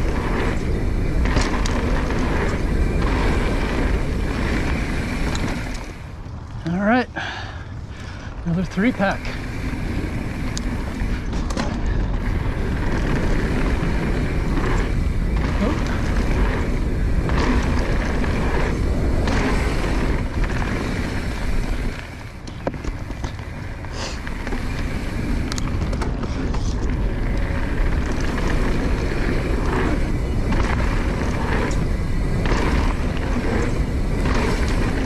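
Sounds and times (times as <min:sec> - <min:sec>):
bike tyres rolling on dirt: 0:00.0 - 0:35.0
wind buffeting microphone: 0:00.0 - 0:35.0.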